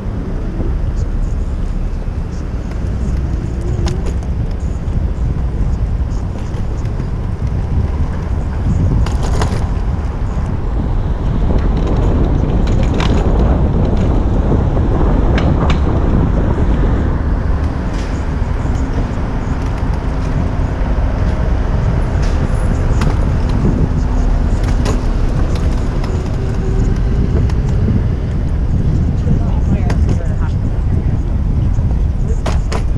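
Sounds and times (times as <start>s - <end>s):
city traffic rumble: 0.0s - 32.9s
vehicle engine hum: 0.0s - 32.9s.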